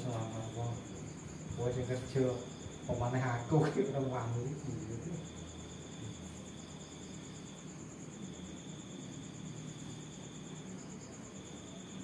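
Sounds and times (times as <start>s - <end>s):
crickets trilling: 0.0s - 12.0s
lower insect trill: 0.0s - 12.0s.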